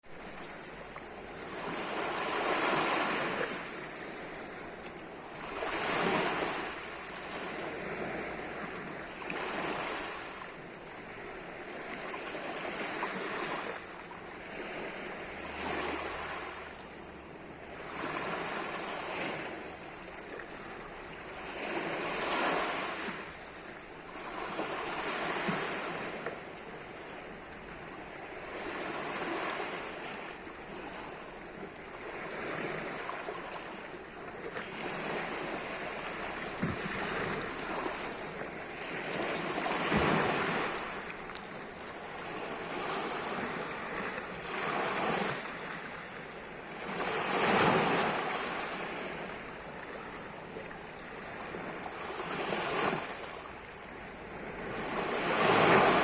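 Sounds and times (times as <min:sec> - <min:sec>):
waves washing onto shore: 0:00.0 - 0:56.0.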